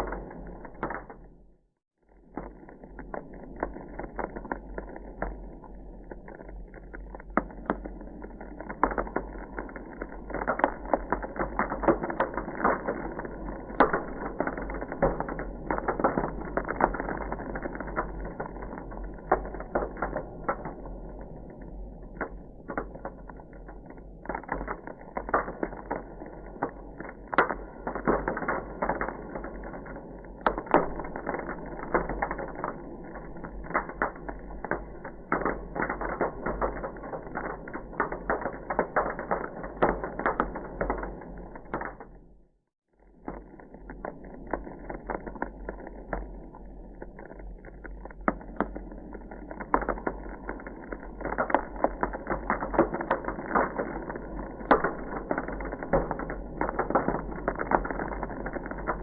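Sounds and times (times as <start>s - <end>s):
ice crackling and popping: 0.0s - 59.0s.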